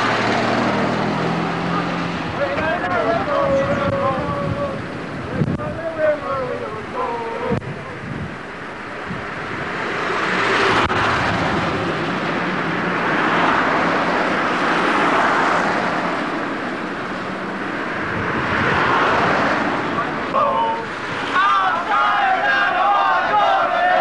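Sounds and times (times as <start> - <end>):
road traffic rushing: 0.0 - 24.0.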